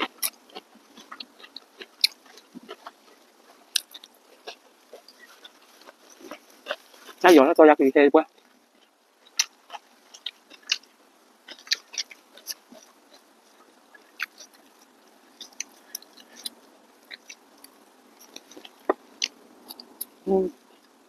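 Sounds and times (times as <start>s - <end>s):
chewing with wet smacks: 0.0s - 7.3s, 8.3s - 21.0s.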